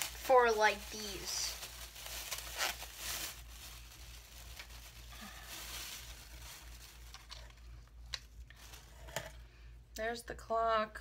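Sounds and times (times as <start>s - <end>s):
packaging rustling and tearing: 0.0s - 9.3s.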